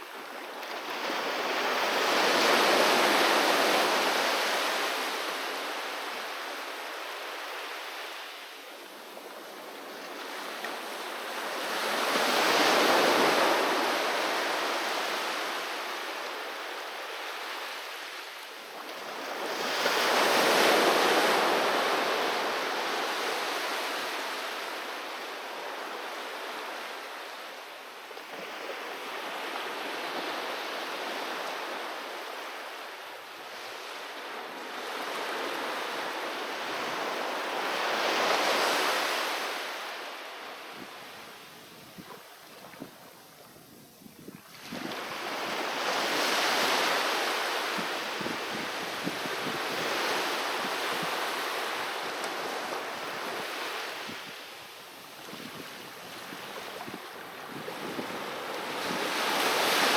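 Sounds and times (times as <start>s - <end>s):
sea waves breaking on beach: 0.0s - 27.6s, 28.2s - 43.3s, 44.4s - 59.9s.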